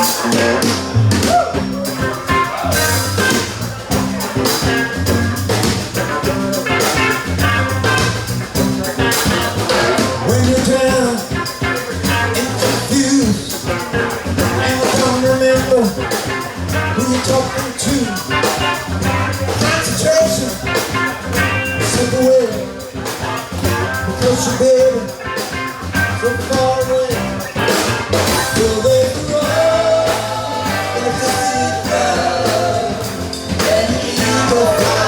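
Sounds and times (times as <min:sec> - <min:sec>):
band playing upbeat instrumental: 0:00.0 - 0:35.0
steady drum beat: 0:00.0 - 0:35.0.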